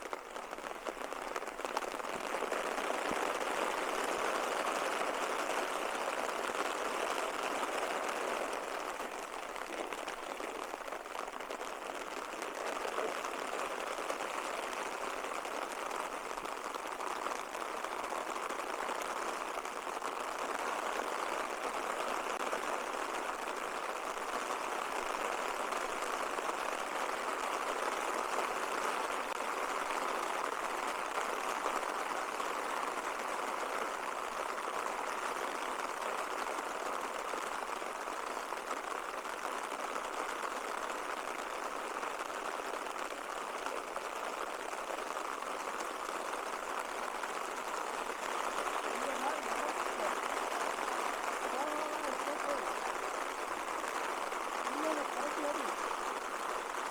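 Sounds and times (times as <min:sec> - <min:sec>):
falling water rushing: 0:00.0 - 0:56.9.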